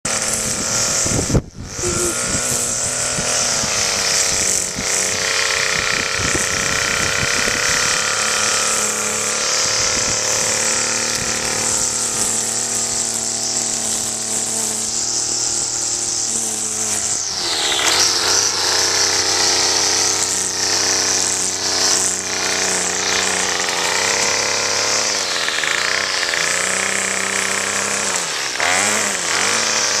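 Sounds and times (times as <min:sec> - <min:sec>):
string trimmer cutting grass: 0:00.0 - 0:30.0.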